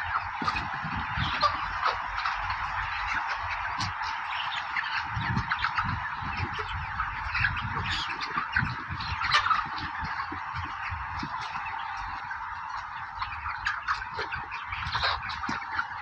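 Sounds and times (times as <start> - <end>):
flock of chickens calling: 0.0 - 16.0.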